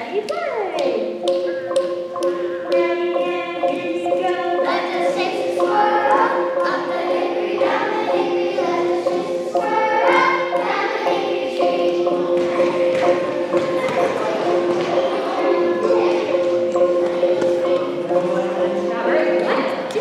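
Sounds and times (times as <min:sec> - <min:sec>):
music with low held notes: 0:00.1 - 0:20.0
children singing: 0:01.0 - 0:20.0.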